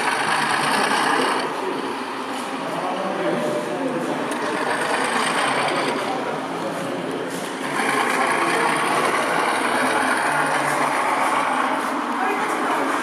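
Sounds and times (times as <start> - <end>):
model locomotives whirring and rattling: 0.0 - 2.9, 3.9 - 13.0
murmur of busy hall: 0.0 - 13.0.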